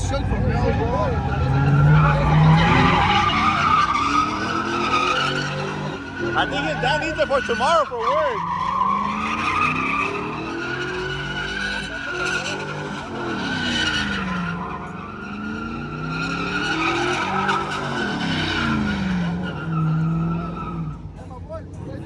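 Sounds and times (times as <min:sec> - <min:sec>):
tires squealing: 0:00.0 - 0:22.0
truck engine revving: 0:00.0 - 0:22.0.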